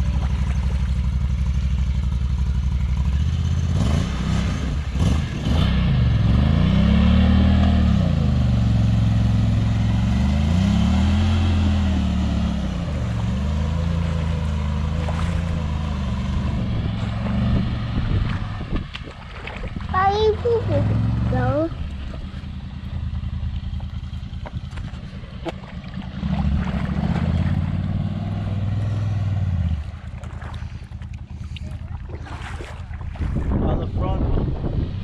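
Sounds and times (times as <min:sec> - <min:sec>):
water churning and splashing: 0:00.0 - 0:02.6, 0:08.3 - 0:34.4
utility vehicle engine revving: 0:00.0 - 0:35.0.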